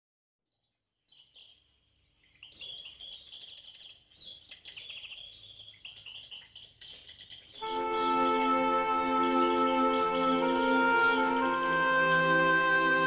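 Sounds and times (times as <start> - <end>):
small birds chirping: 0.4 - 12.8.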